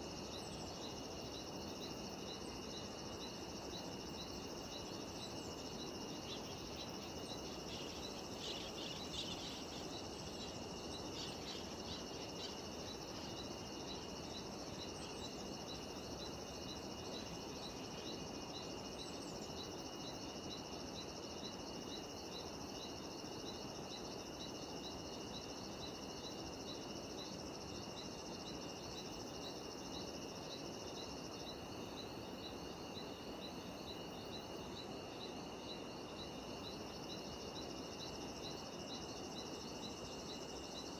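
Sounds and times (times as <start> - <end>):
background hiss: 0.0 - 40.9
cicadas and insects singing: 0.0 - 40.9.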